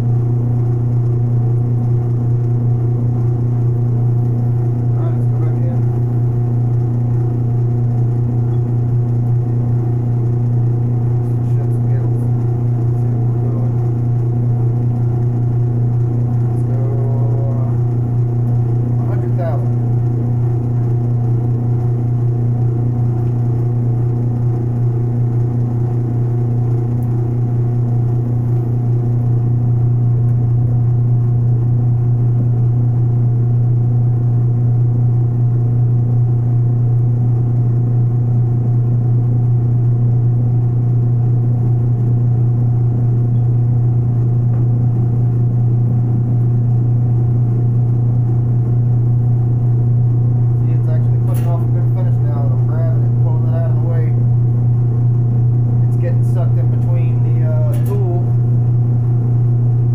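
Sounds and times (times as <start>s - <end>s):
metal lathe motor humming: 0.0s - 59.9s.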